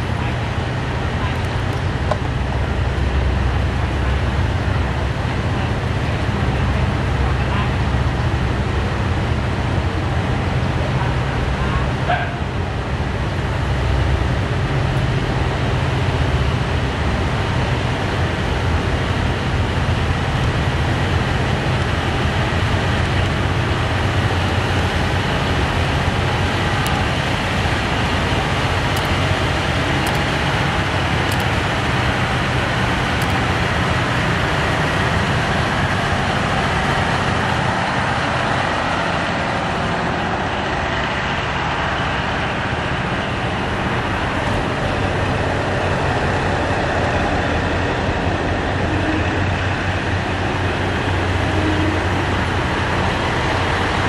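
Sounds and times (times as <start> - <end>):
diesel train passing slowly: 0.0 - 54.0.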